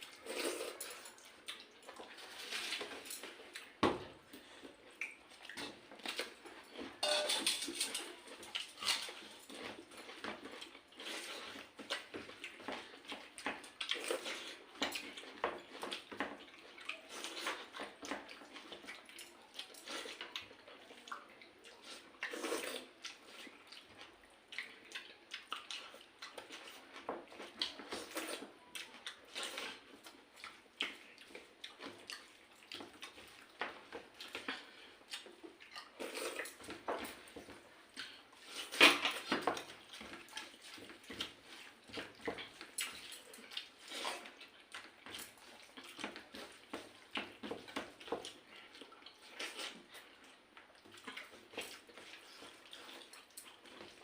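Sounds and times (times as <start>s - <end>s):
chewing and slurping: 0.0s - 7.0s, 7.7s - 54.0s
wet eating by hand: 0.0s - 7.0s, 7.7s - 54.0s.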